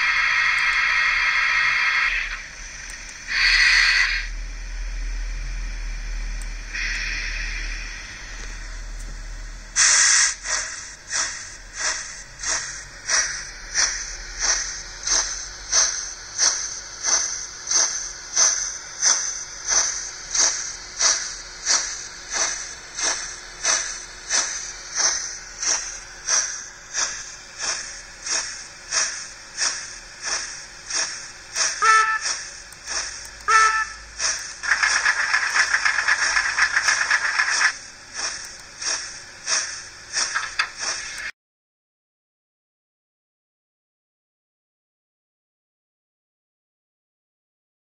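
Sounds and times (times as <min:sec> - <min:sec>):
model locomotive steam chuffs: 0:00.0 - 0:41.3.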